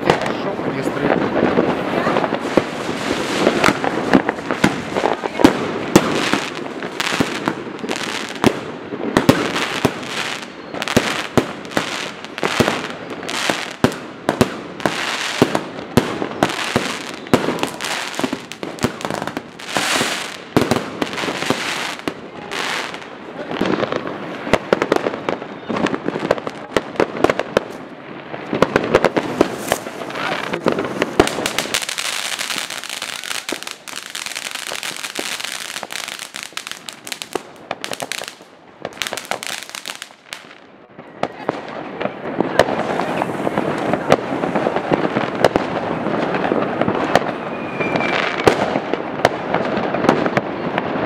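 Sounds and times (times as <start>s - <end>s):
fireworks and firecrackers banging: 0.0s - 51.0s.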